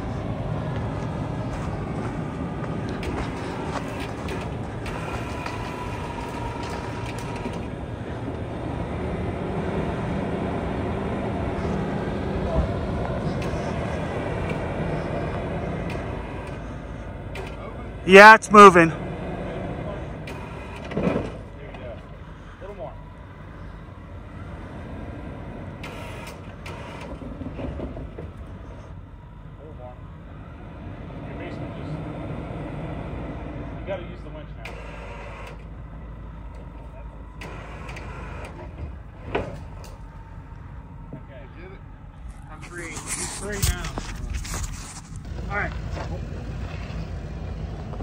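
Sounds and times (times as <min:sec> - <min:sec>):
suv engine running under load: 0:00.0 - 0:18.1, 0:18.7 - 0:48.0.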